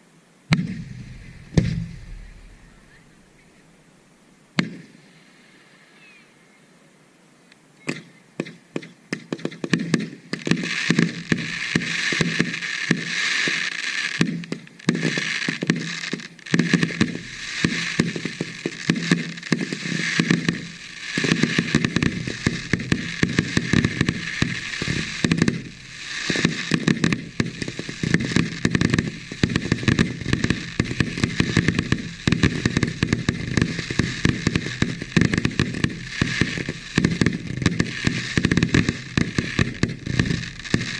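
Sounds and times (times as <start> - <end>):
fireworks bangs and crackling: 0.5 - 3.7, 4.6 - 5.0, 7.9 - 40.9.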